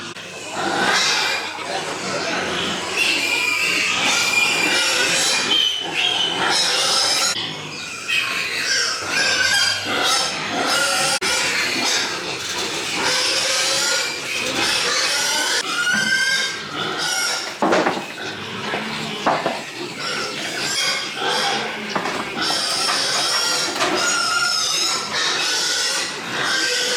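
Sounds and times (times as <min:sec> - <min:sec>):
pigs squealing and grunting: 0:00.0 - 0:26.9.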